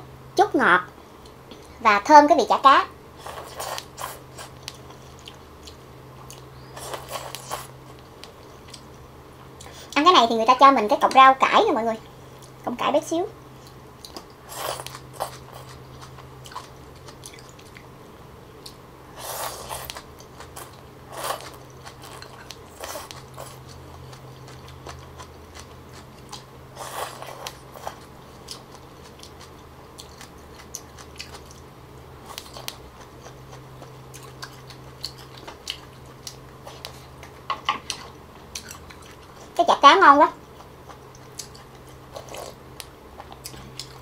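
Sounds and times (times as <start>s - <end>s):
steady low hum: 0.0s - 44.0s
chewing: 3.2s - 9.8s, 13.6s - 17.9s, 18.6s - 39.6s, 40.4s - 44.0s.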